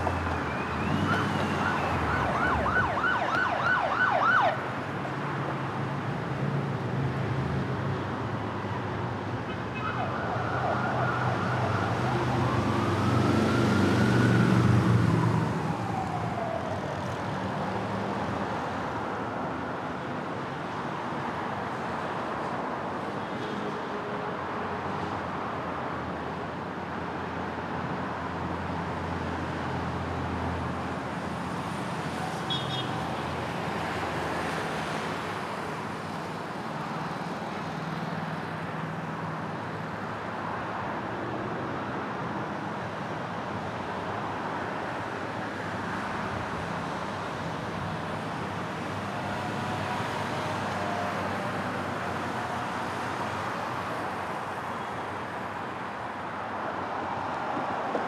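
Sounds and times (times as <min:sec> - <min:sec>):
road traffic hum: 0:00.0 - 0:58.0.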